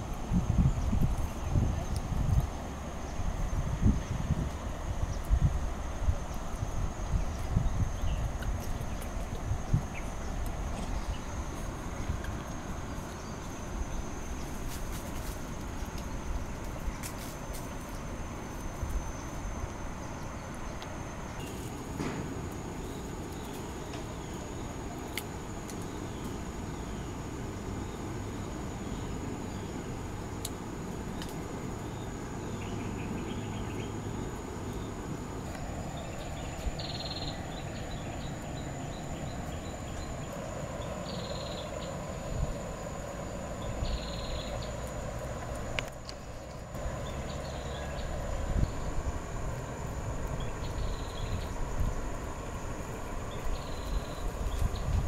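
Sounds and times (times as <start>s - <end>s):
high insect drone: 0.0s - 55.0s
low rumble and hiss: 0.0s - 55.0s.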